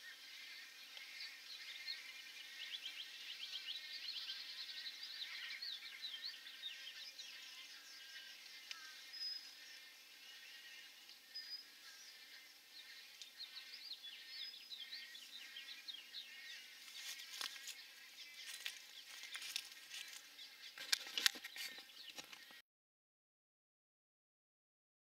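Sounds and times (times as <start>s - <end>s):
nestlings chirping: 0.8s - 22.6s.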